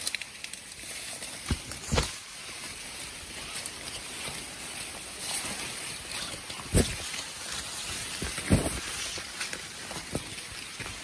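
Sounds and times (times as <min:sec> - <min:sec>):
corn leaves rustling: 0:00.0 - 0:11.0.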